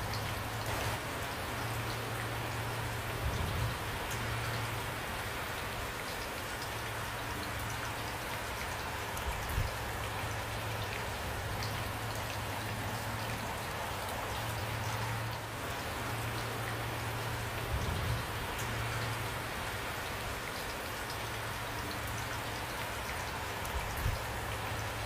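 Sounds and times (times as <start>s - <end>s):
raindrops ticking on a surface: 0.0s - 25.0s
steady rain falling: 0.0s - 25.0s.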